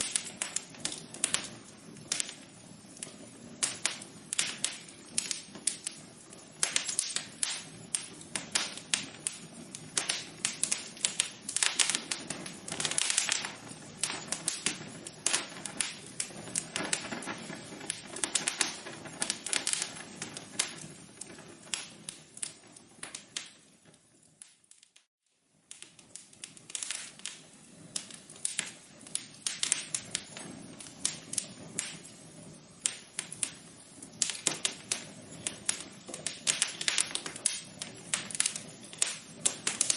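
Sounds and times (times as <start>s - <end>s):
fire crackling and popping: 0.0s - 39.9s
soft hiss of fire: 0.0s - 39.9s.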